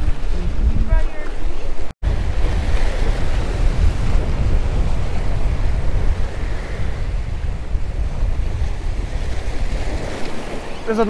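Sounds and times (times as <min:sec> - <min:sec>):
waves breaking against rocks: 0:00.0 - 0:11.0
wind buffeting microphone: 0:00.0 - 0:11.0.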